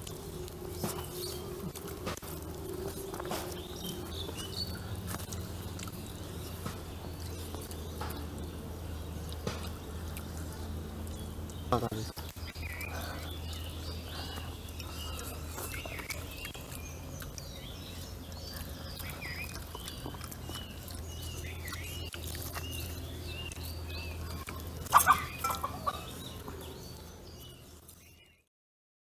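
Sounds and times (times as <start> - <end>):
steady low hum: 0.0 - 28.4
birds chirping: 0.0 - 28.5.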